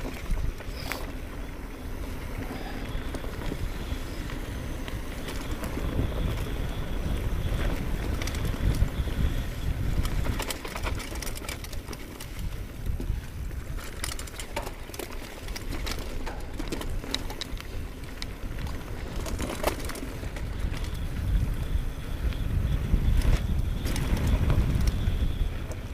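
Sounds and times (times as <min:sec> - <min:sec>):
bike clicks and rattles: 0:00.0 - 0:25.9
tyres rolling over dirt: 0:00.0 - 0:25.9
wind buffeting microphone: 0:00.0 - 0:25.9.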